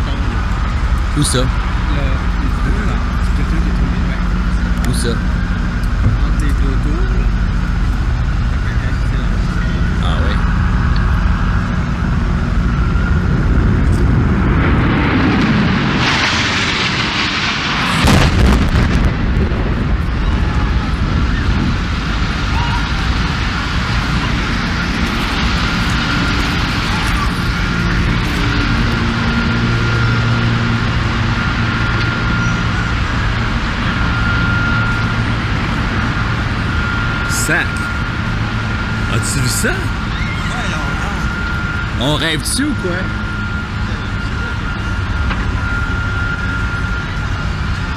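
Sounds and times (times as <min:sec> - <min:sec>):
jet crashing: 0:00.0 - 0:47.9
jet engines roaring: 0:00.0 - 0:47.9
low city rumble: 0:00.0 - 0:47.9.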